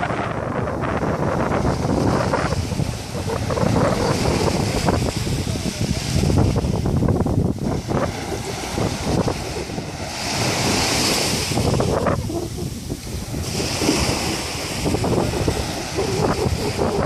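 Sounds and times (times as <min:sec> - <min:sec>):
sea surf washing onto beach: 0:00.0 - 0:17.0
wind buffeting microphone: 0:00.0 - 0:17.0.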